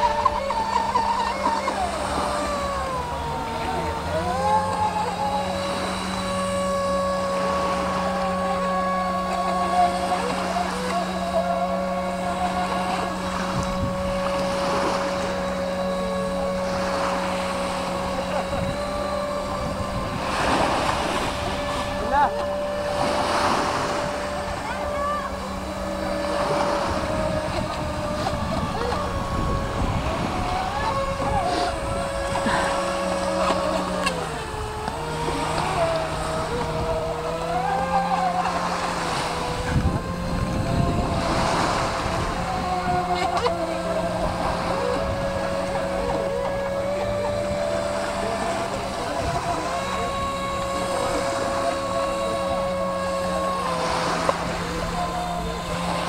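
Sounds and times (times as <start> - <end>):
electric motor whine: 0.0 - 56.0
waves: 0.0 - 56.0
wind: 0.0 - 56.0.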